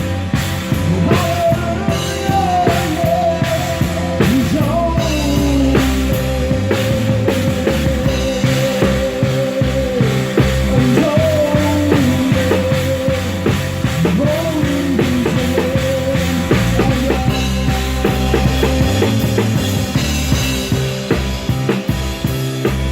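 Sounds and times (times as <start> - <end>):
electric guitar lead line: 0.0 - 22.9
rock band playing: 0.0 - 22.9.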